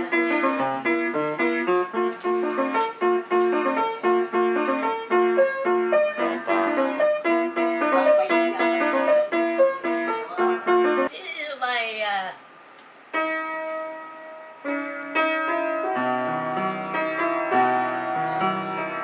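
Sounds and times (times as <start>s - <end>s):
piano tune: 0.0s - 11.1s, 13.0s - 19.0s.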